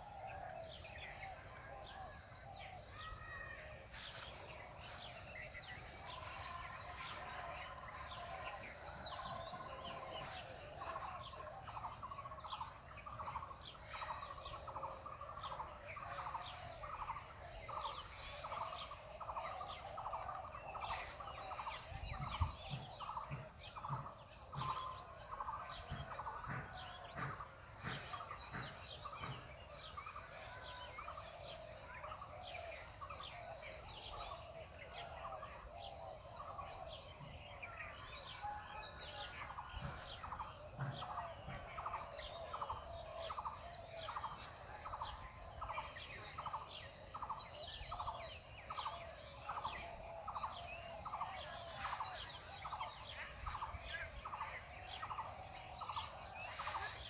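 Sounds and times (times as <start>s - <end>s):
birds calling: 0.0s - 57.0s.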